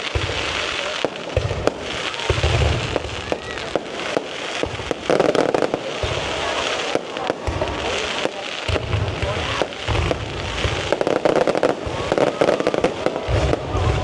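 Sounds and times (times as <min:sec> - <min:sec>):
firework crackling: 0:00.0 - 0:14.0
firework low booms: 0:00.0 - 0:14.0
firework sharp cracks: 0:00.0 - 0:14.0.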